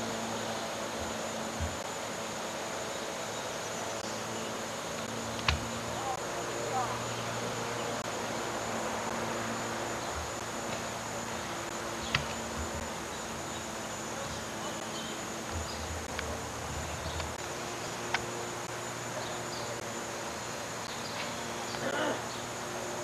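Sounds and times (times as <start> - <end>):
faint high whine: 0.0 - 23.0
steady hiss: 0.0 - 23.0.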